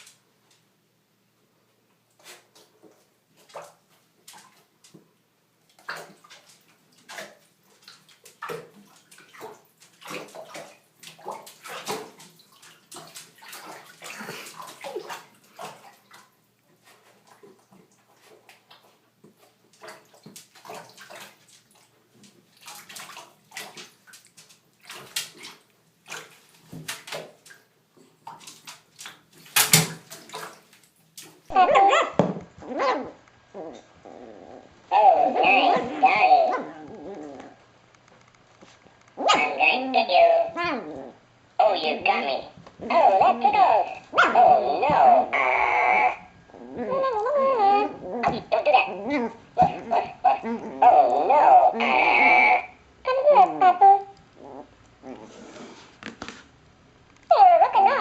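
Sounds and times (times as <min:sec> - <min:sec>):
water splashing and sloshing: 0:02.0 - 0:34.0, 0:34.8 - 0:58.0.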